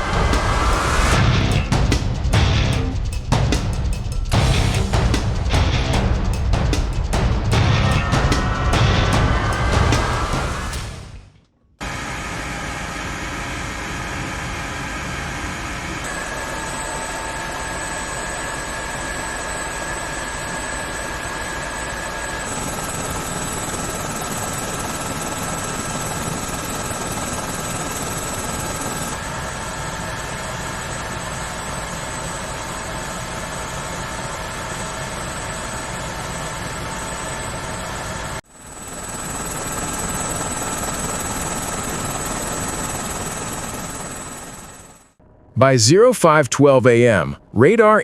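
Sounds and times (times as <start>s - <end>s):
thin steady whine: 0.0s - 11.2s, 11.8s - 48.0s
helicopter rotor and engine: 4.2s - 11.2s, 11.8s - 45.4s.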